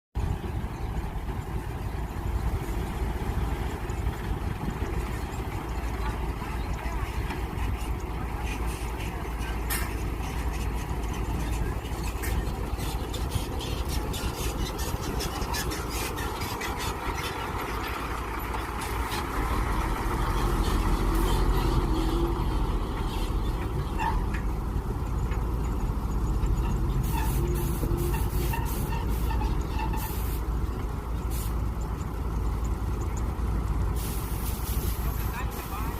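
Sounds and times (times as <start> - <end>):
excavator engine running: 0.2 - 35.9.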